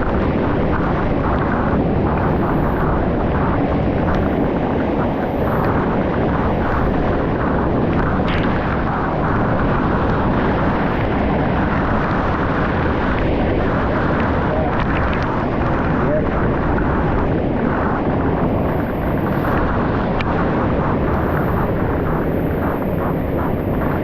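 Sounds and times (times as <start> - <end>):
rushing water roar: 0.0 - 24.0.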